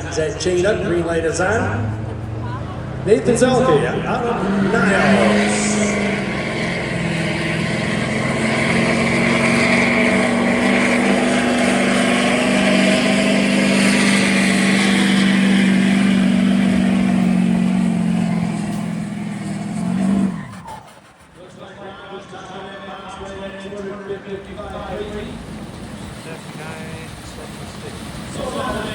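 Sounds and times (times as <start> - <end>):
diesel truck engine at full throttle: 0.0 - 28.9.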